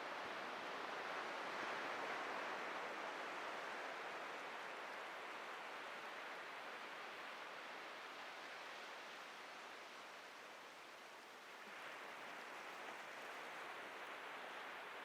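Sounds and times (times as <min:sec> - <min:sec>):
ocean surf on a beach: 0:00.0 - 0:15.0.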